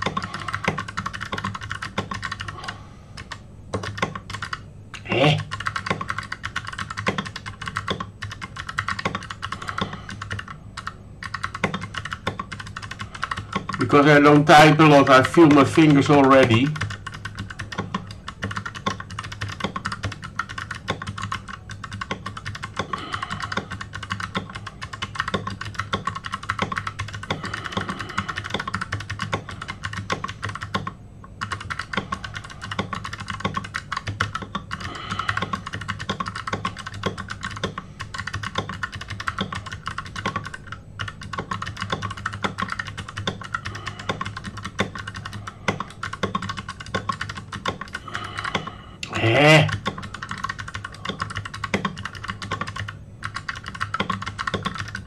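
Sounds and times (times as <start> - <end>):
fast typing on keyboard: 0.0 - 55.0.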